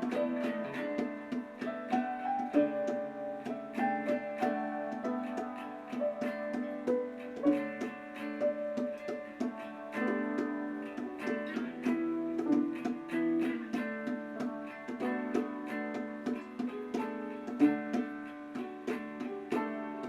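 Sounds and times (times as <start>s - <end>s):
gently picked acoustic guitar: 0.0s - 20.0s.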